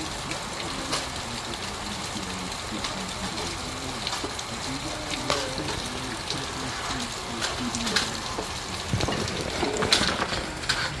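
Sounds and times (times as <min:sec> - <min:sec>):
raindrops clicking close by: 0:00.0 - 0:11.0
steady rain falling: 0:00.0 - 0:11.0.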